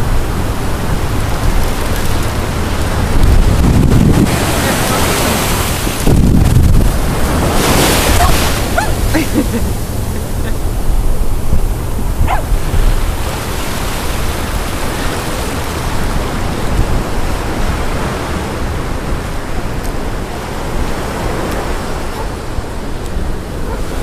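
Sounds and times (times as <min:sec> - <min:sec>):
ocean surf rushing: 0:00.0 - 0:24.0.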